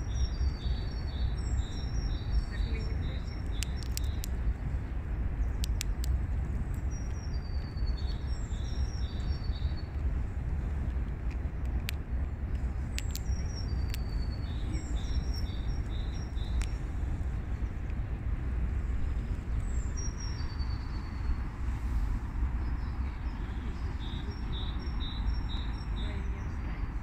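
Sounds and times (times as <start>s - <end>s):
songbird singing: 0.0s - 27.0s
steady low rumble: 0.0s - 27.0s.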